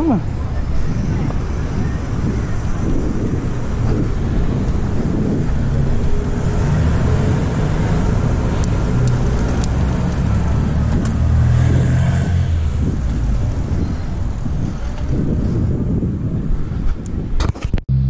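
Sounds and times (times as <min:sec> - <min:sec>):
wind rumble on microphone: 0:00.0 - 0:18.0
vehicle engine running nearby: 0:00.2 - 0:17.0.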